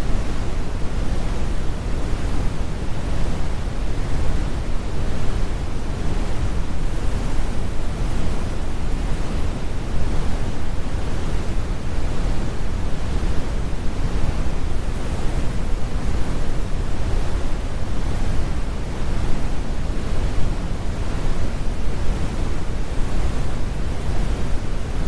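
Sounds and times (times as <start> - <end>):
deep brown noise rumble: 0.0 - 25.0.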